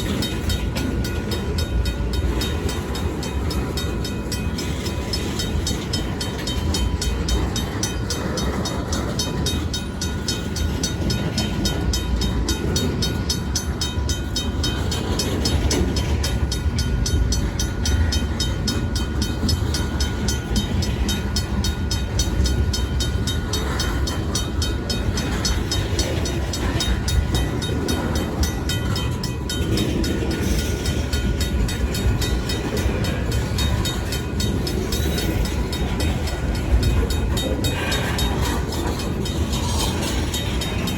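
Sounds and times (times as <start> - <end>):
crossing bell ringing: 0.0 - 40.9
freight train rumbling: 0.0 - 40.9.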